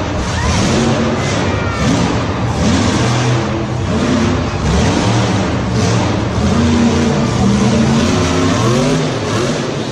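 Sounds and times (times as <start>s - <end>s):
steady noisy rumble: 0.0s - 9.9s.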